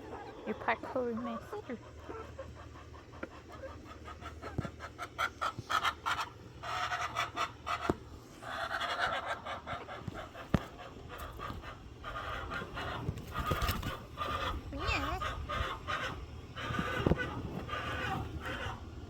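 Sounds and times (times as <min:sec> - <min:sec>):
chickens squawking: 0:00.0 - 0:19.0
clicks and rustles of birds moving: 0:00.6 - 0:18.9.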